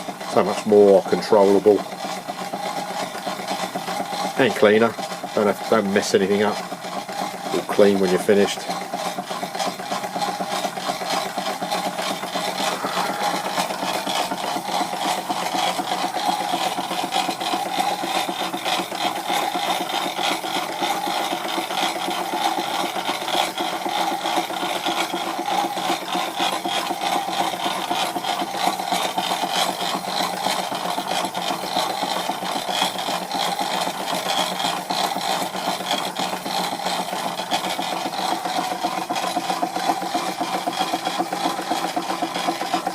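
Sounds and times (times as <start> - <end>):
model steam engine clattering: 0.0 - 12.5, 14.4 - 42.9.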